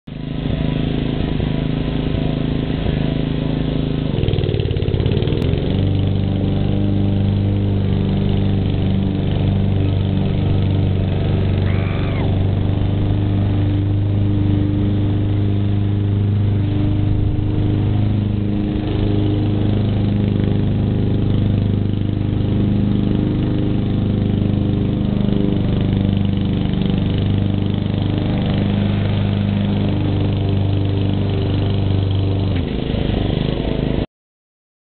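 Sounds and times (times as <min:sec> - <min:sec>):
lawn mower engine running: 0:00.1 - 0:34.0.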